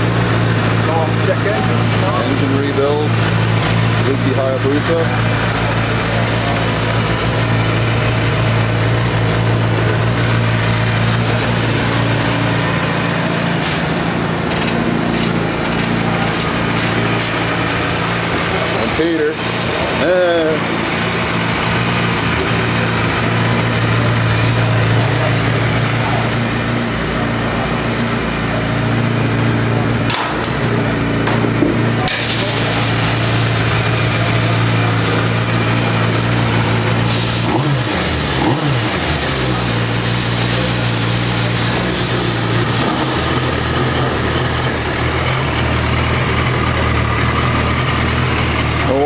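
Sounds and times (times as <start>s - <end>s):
motorcycle engine idling: 0.0s - 49.0s.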